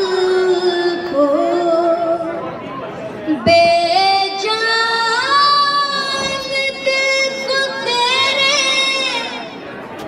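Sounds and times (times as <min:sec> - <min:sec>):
boy singing into a microphone: 0:00.0 - 0:02.4, 0:03.3 - 0:09.6.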